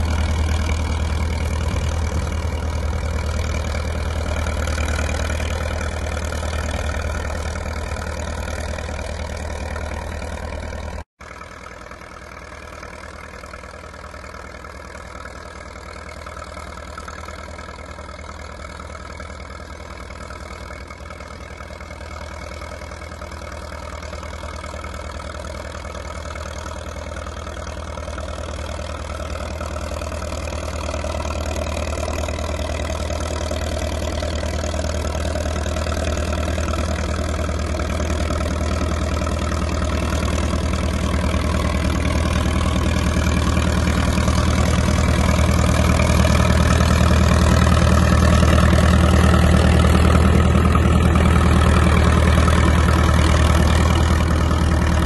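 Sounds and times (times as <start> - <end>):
crawler diesel engine under load: 0.0 - 55.0.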